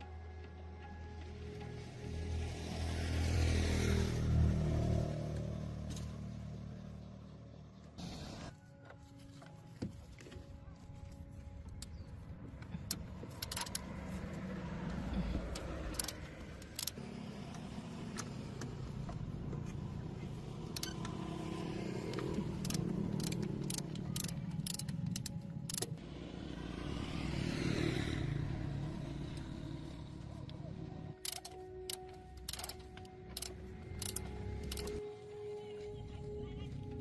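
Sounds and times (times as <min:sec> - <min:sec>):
car running rumble: 0:00.0 - 0:37.0.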